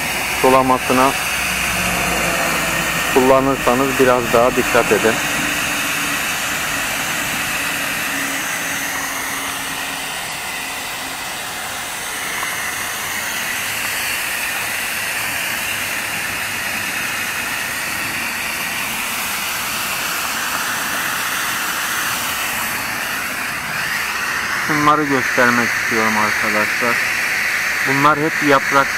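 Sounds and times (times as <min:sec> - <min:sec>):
mist nozzle hissing: 0:00.0 - 0:28.9.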